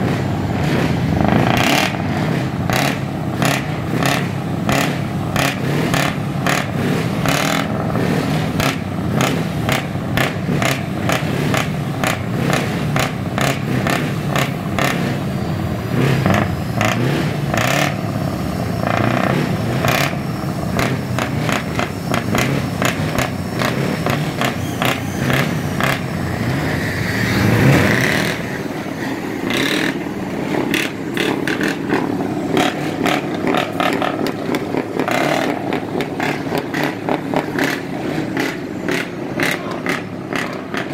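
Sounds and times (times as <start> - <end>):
diesel truck engines running: 0.0 - 40.9
sharp exhaust cracks: 0.1 - 40.9.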